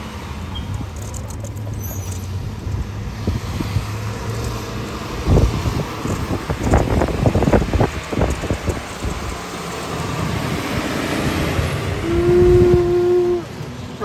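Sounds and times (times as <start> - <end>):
garbage truck rumbling: 0.0 - 14.0.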